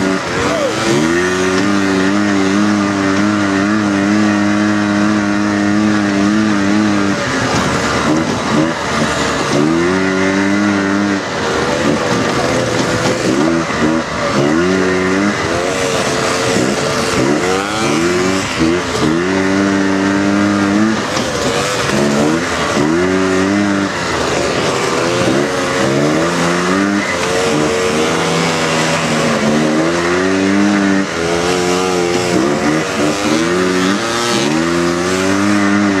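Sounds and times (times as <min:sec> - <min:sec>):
buggy engine revving: 0:00.0 - 0:36.0
steady rush of noise: 0:00.0 - 0:36.0.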